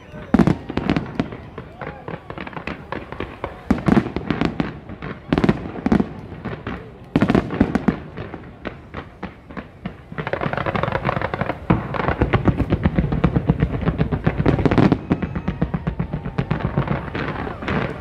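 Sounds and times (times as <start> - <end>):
fireworks bangs and crackle: 0.0 - 18.0.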